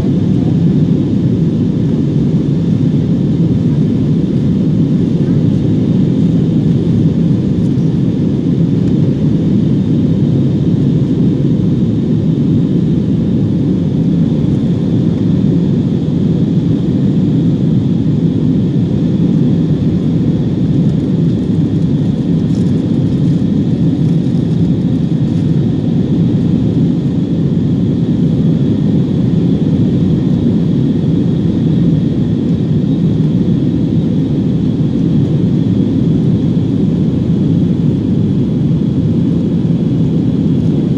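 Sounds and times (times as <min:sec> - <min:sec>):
jet engine and airflow rush: 0:00.0 - 0:40.9.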